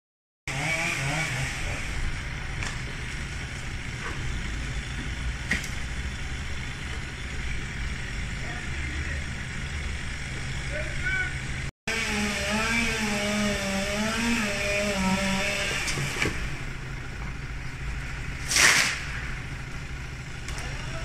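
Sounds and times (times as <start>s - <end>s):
vehicle engine rumbling: 0.5s - 21.0s.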